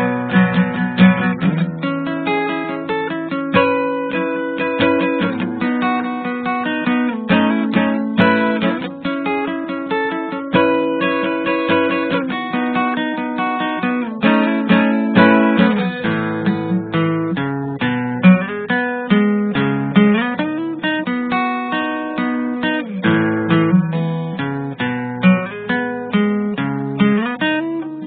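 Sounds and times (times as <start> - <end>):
guitar plucking and strumming: 0.0 - 28.0.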